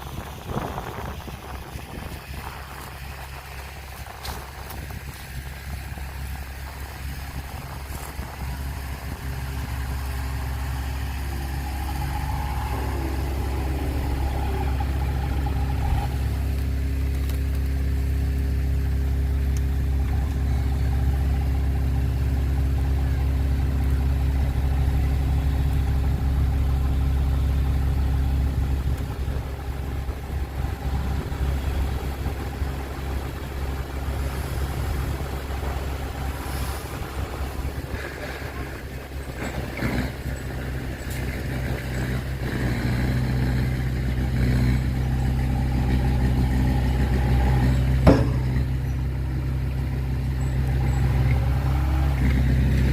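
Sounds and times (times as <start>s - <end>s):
truck engine running: 0.0s - 52.9s.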